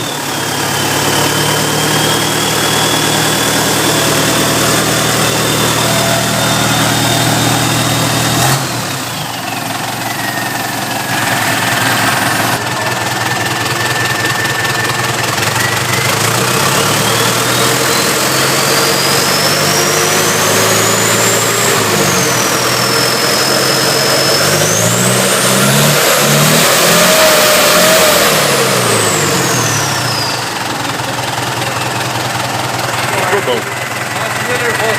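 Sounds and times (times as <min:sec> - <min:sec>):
diesel engine revving: 0:00.0 - 0:34.9
high engine whine: 0:00.0 - 0:34.9.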